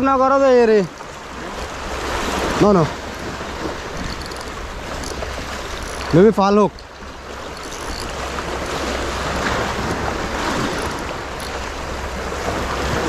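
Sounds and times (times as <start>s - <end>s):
waves breaking on rocks: 0.0s - 13.0s.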